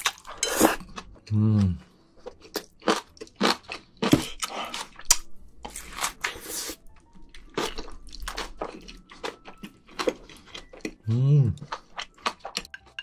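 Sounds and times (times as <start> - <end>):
wet chewing and mouth smacking: 2.2 - 13.0.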